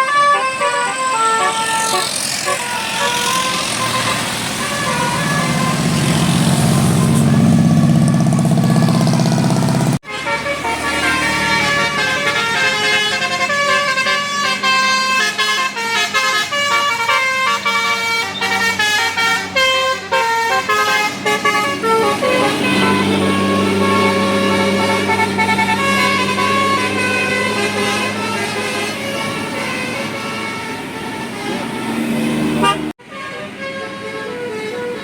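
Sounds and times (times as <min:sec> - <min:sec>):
bus passing: 0:00.0 - 0:35.0
multi-tone bus horn melody: 0:00.0 - 0:35.0.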